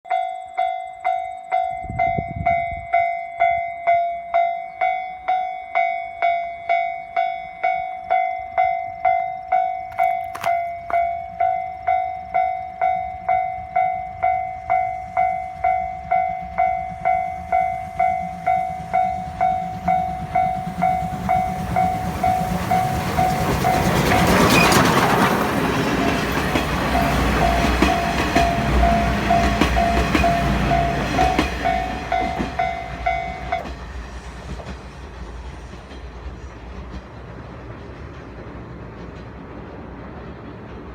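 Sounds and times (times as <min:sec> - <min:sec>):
steam train passing: 0:00.4 - 0:40.9
train wheels clacking on rails: 0:01.0 - 0:40.9.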